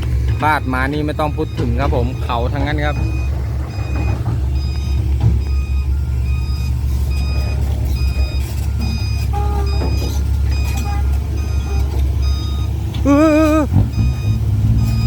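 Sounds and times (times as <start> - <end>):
diesel engine rumble: 0.0 - 15.0
reversing alarm beeping: 0.0 - 15.0.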